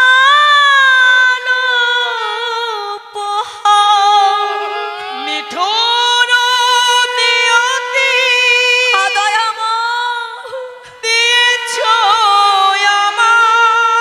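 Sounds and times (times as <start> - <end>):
woman singing devotional melody: 0.0 - 14.0.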